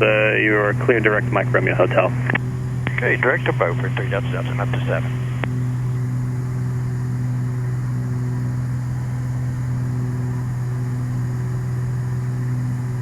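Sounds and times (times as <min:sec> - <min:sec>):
piston aircraft engines droning: 0:00.0 - 0:13.0.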